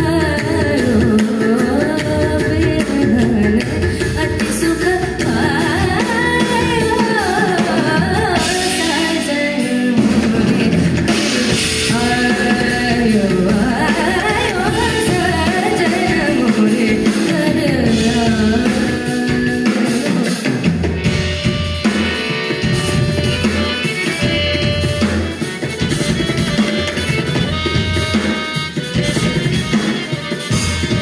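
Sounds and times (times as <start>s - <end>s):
band with drum kit and percussion: 0.0s - 31.0s.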